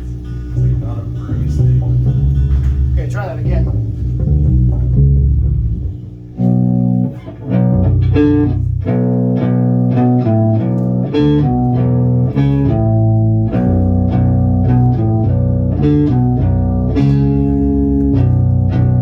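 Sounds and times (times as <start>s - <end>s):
electric bass guitar riff: 0.0s - 19.0s.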